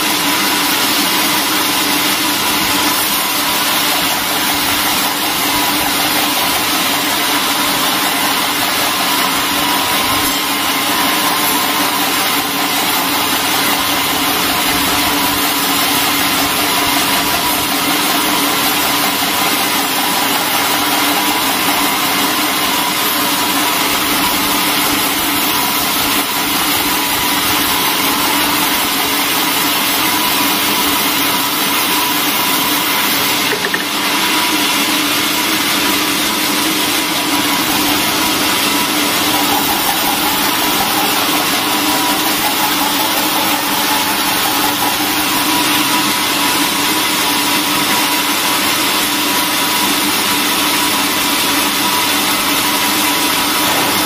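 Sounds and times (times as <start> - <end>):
band saw cutting timber: 0.0 - 54.0.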